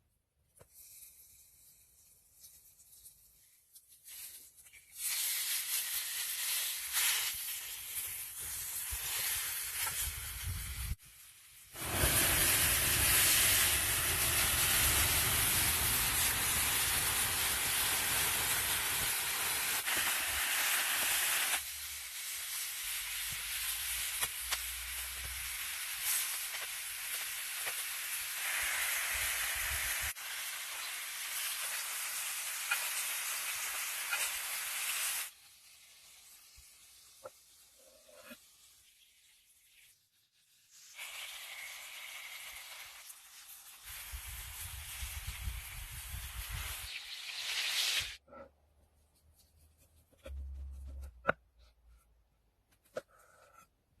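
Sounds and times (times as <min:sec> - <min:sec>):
meat sizzling on a grill: 0:03.4 - 0:48.2.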